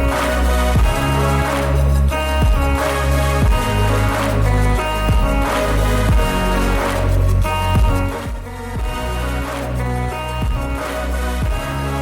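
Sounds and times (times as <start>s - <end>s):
electronic pop music: 0.0s - 12.0s.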